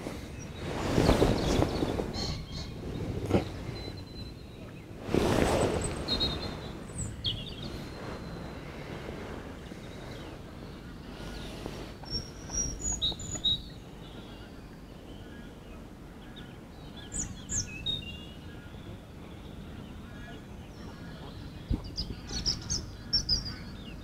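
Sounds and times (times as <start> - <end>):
birds chirping: 0.0 - 24.0
low background noise: 0.0 - 24.0.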